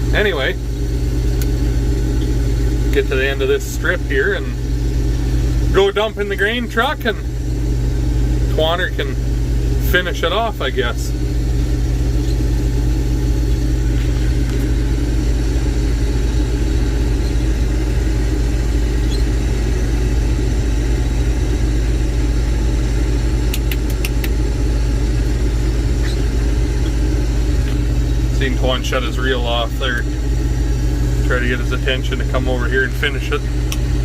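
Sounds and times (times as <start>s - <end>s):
combine harvester droning: 0.0s - 34.0s.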